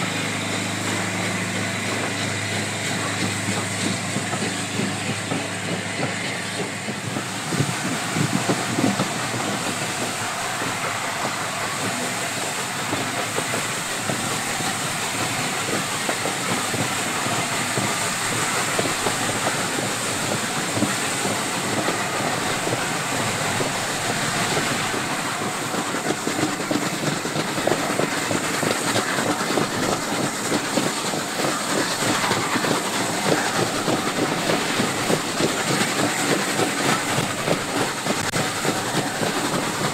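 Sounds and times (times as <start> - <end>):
steam locomotive exhaust hiss: 0.0 - 39.9
train wheels clattering over rails: 0.0 - 39.9.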